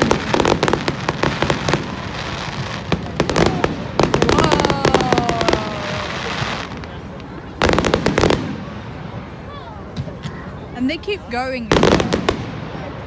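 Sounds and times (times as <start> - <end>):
fireworks crackling pops: 0.0 - 9.2, 11.6 - 13.0.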